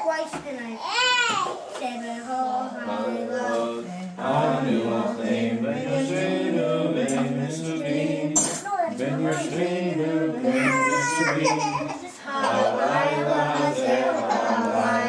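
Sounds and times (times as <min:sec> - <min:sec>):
group of voices singing: 0:02.2 - 0:15.0.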